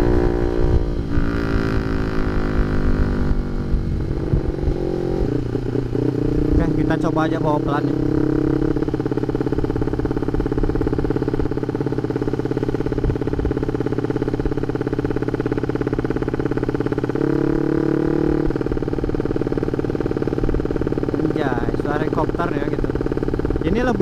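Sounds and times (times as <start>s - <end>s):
motorcycle engine exhaust note: 0.0s - 24.0s.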